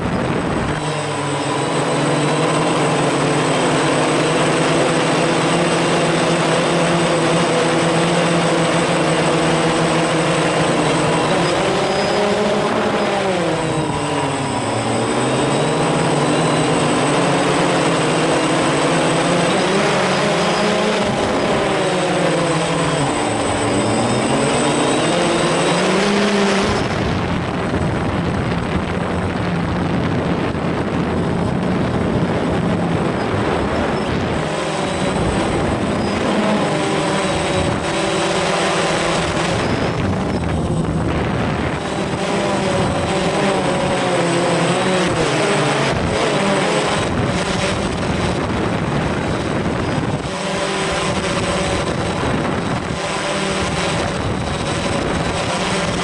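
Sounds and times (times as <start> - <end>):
drone propellers whirring: 0.0 - 56.0
steady rushing noise: 0.0 - 56.0.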